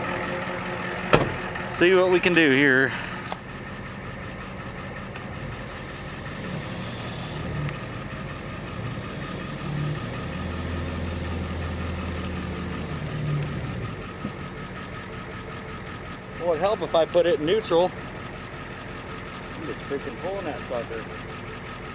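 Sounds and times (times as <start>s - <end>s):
truck engine revving: 0.0s - 21.9s.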